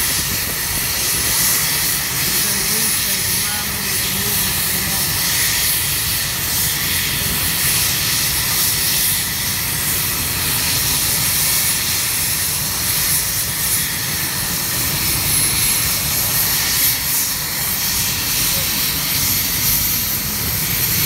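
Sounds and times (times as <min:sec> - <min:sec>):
helicopter engine whine: 0:00.0 - 0:21.0
helicopter rotor turning: 0:00.0 - 0:21.0.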